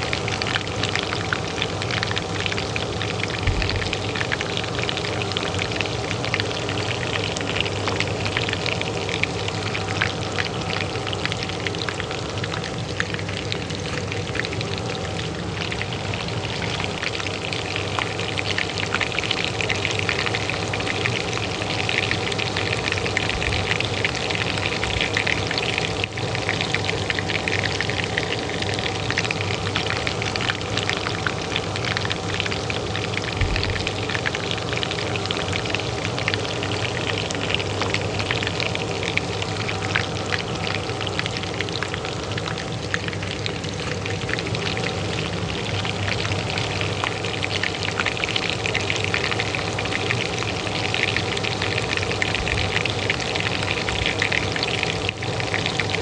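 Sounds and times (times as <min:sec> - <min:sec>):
oil crackling in a pan: 0:00.0 - 0:56.0
range hood fan humming: 0:00.0 - 0:56.0.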